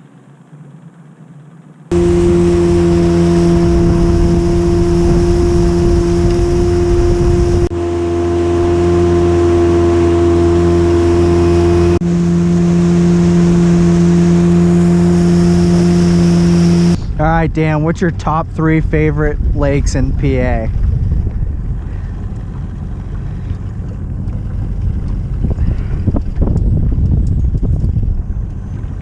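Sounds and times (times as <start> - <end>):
outboard motor droning: 0.0 - 29.0
water noise: 0.0 - 29.0
wind: 0.0 - 29.0.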